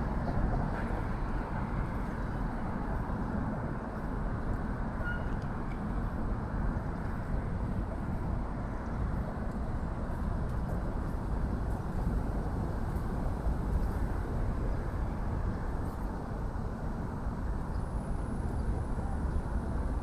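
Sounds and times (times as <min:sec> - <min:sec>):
busy road traffic rumble: 0:00.0 - 0:20.0.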